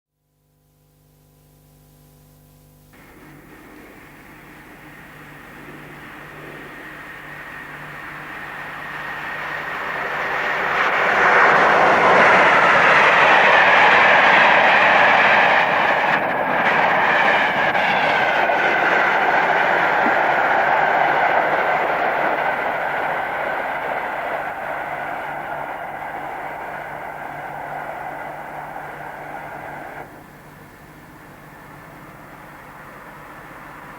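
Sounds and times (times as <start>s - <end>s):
electric train passing at speed: 3.0s - 33.9s.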